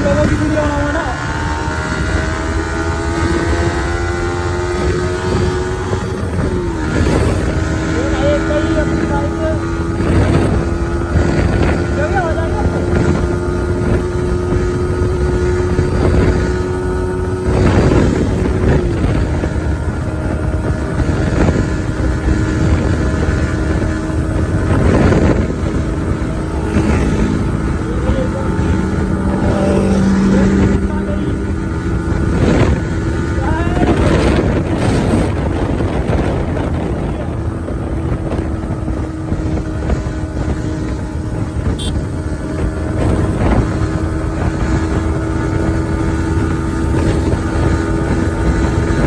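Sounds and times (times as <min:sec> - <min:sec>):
motorcycle engine running: 0:00.0 - 0:49.0
wind rumble on microphone: 0:00.0 - 0:49.0.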